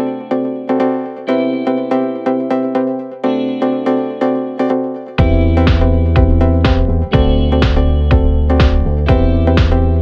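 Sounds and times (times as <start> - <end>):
music with repeated pitched notes: 0.0 - 10.0.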